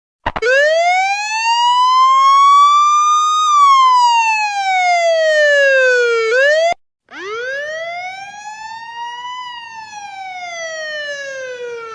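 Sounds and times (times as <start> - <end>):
emergency siren wailing: 0.4 - 11.9.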